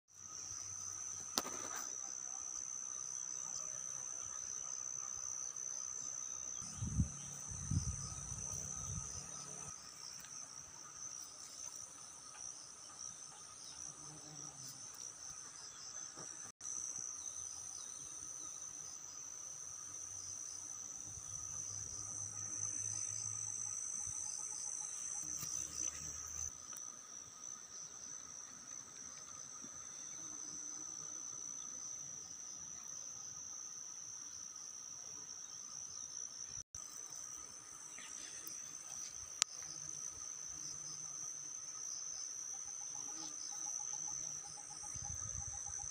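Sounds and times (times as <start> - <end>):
insects trilling: 0.1 - 45.9.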